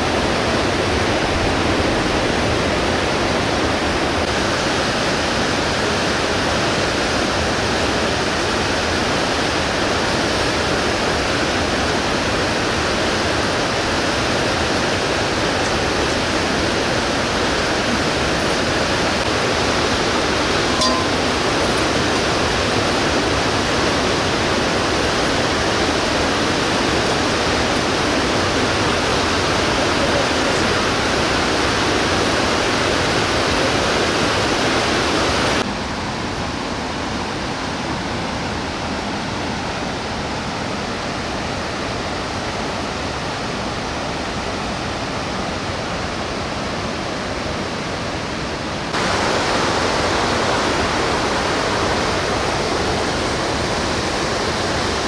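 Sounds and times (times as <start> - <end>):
whitewater river rushing: 0.0 - 55.0.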